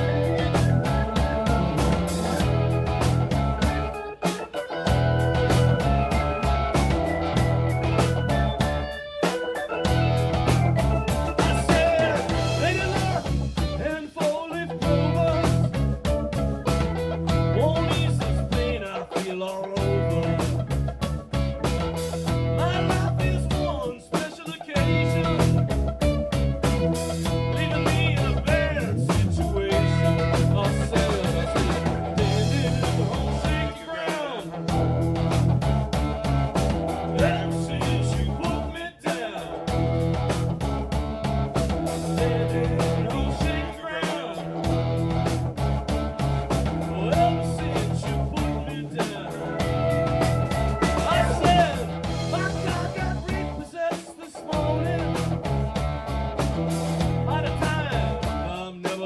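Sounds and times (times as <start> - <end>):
electric guitar with pitch bends: 0.0 - 58.8
bass and drums: 0.0 - 59.0.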